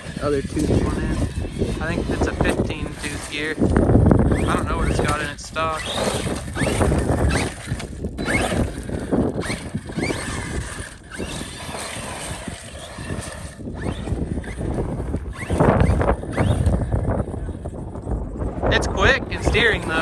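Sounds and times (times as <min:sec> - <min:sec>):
rc car electric motor whining: 0:00.0 - 0:18.6, 0:19.2 - 0:20.0
tyres on rough ground: 0:00.0 - 0:20.0
wind on microphone: 0:00.0 - 0:20.0.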